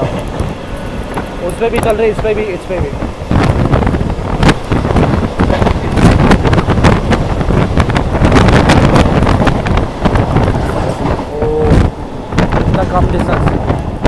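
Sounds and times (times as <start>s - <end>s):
train rushing past: 0.0s - 14.0s
wind buffeting microphone: 0.0s - 14.0s.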